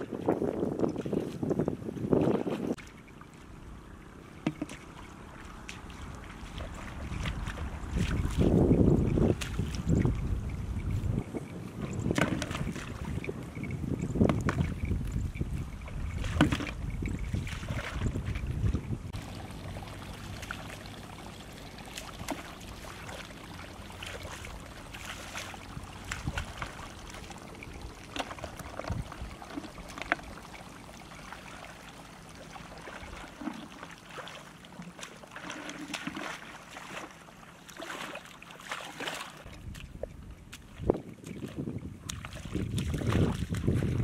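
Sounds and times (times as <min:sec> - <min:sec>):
water splashing and trickling: 0:00.0 - 0:44.0.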